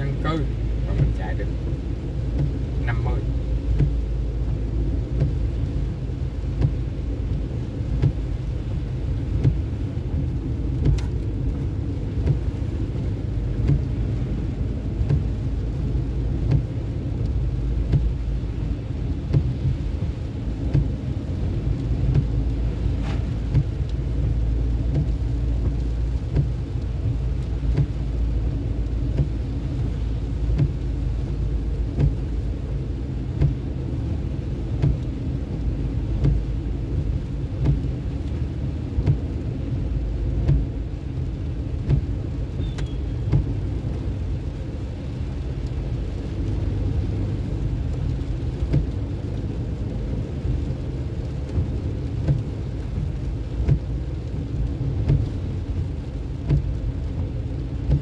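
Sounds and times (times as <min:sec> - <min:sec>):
vehicle road rumble: 0:00.0 - 0:58.0.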